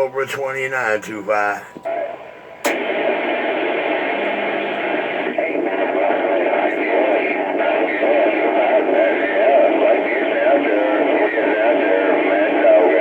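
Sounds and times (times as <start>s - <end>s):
faint garbled radio voices: 0.0s - 13.0s
radio static and hiss: 0.0s - 13.0s.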